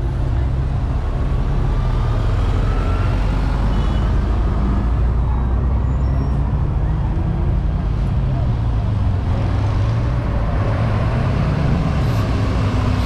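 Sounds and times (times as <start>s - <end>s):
heavy vehicle engine rumble: 0.0s - 13.0s.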